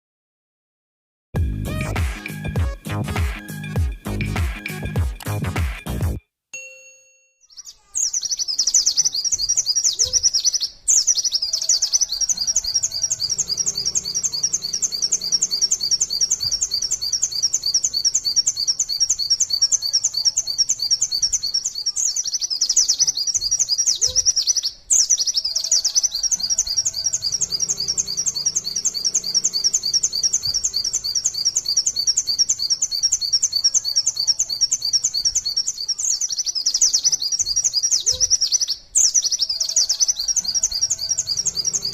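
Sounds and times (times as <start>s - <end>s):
bird fast high chirping song: 1.4s - 6.2s, 7.4s - 41.9s.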